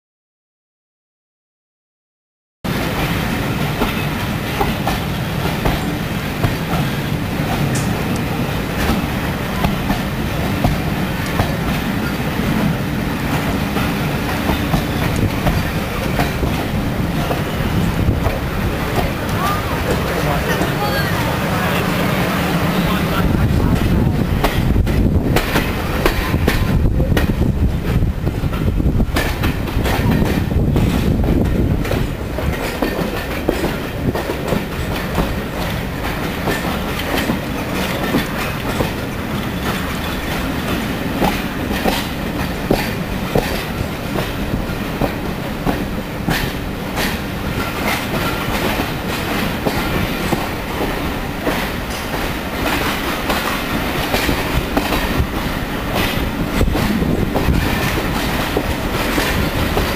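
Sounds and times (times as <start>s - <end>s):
train coaches rumbling on track: 2.6s - 59.9s
wheels clicking over rail joints: 2.7s - 20.9s, 23.7s - 59.9s.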